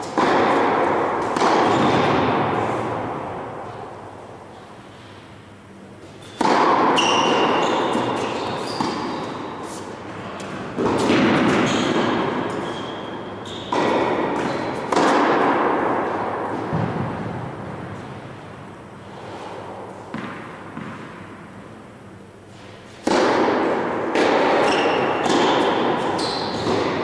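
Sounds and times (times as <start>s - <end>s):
tennis ball hit with racket: 0.0s - 4.0s, 6.2s - 18.3s, 19.6s - 21.4s, 22.9s - 27.0s.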